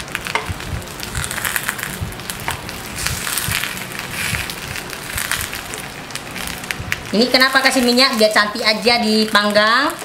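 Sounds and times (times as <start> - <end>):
rice rolls sizzling in oil: 0.0 - 10.0.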